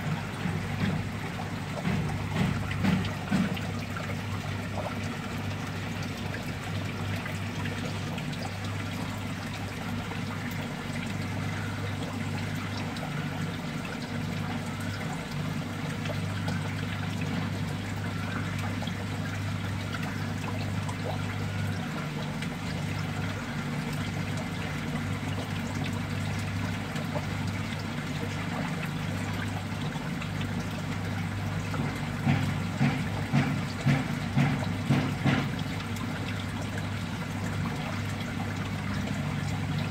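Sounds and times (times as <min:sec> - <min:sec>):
water splashes: 0:00.0 - 0:39.9
water trickling: 0:00.0 - 0:39.9.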